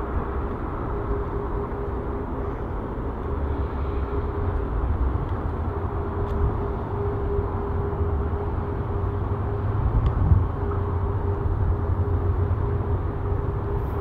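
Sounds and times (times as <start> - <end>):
distant jet engines idling: 0.0 - 14.0.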